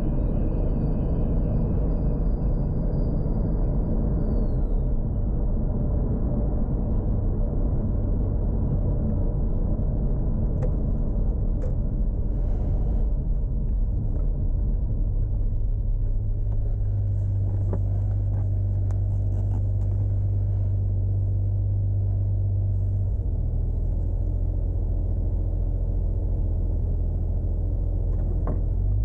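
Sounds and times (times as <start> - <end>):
car engine low drone: 0.0 - 29.0.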